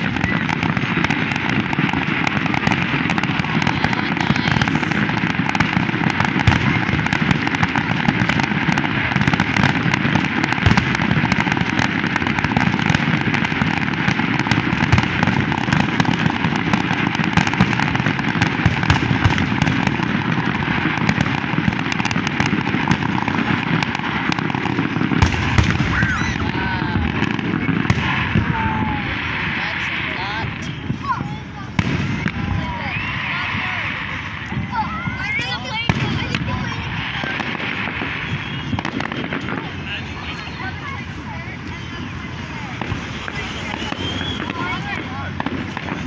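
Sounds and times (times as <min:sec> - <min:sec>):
fireworks bursting and crackling: 0:00.0 - 0:46.0
sharp fireworks bangs: 0:00.0 - 0:46.0.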